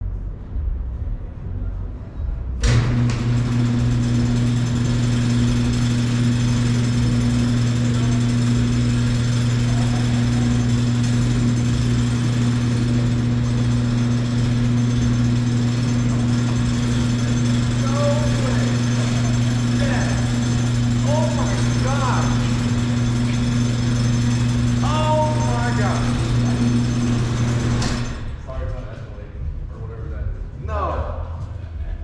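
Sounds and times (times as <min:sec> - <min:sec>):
truck engine running: 0:02.6 - 0:29.7.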